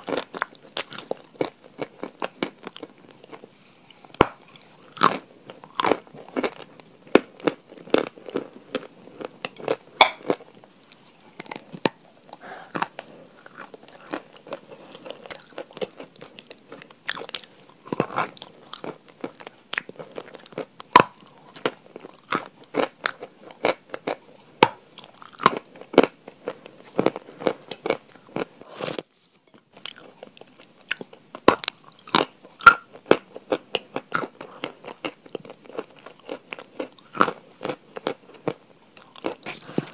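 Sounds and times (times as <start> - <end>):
crunchy food being chewed: 0.0 - 39.9.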